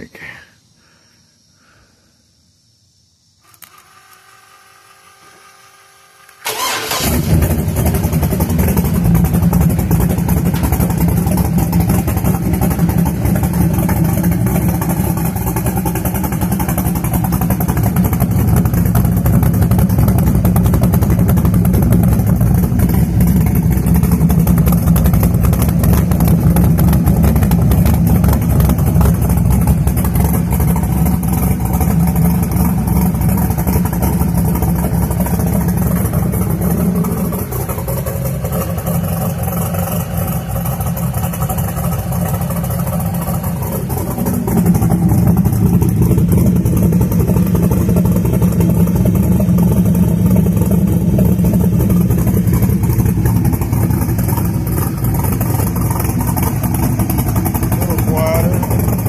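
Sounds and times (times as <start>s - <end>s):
starter cranking engine: 3.4s - 59.0s
vee eight engine running: 3.4s - 59.0s.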